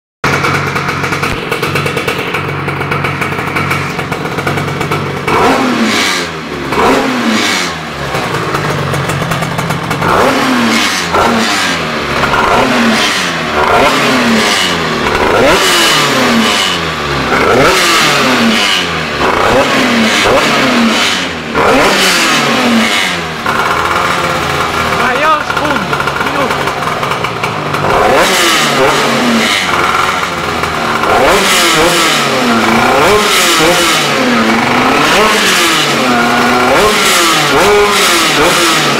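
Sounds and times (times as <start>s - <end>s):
two-stroke motorcycle engine revving: 0.2s - 38.9s.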